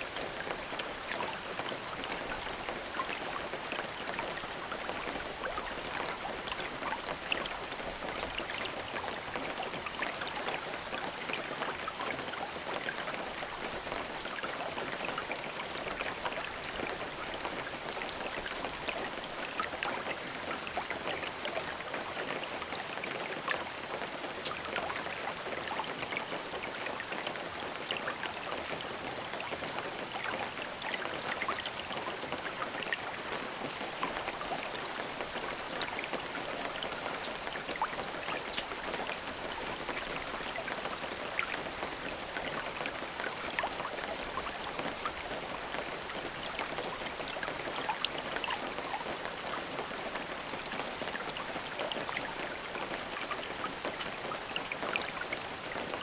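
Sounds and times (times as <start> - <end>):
raindrops pattering: 0.0 - 56.0
steady rain falling: 0.0 - 56.0.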